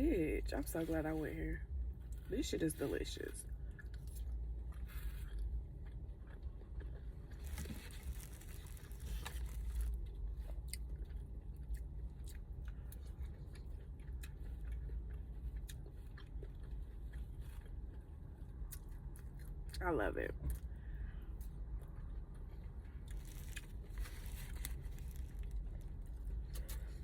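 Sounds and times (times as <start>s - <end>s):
steady low hum: 0.0s - 27.0s
person chewing food: 3.5s - 19.8s, 20.5s - 27.0s.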